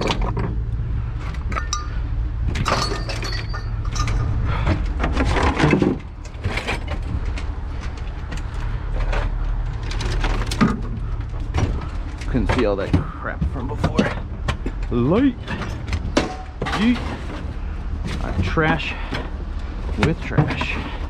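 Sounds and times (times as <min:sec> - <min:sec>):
low engine hum: 0:00.0 - 0:21.0
scrap metal clattering and banging: 0:00.0 - 0:21.0.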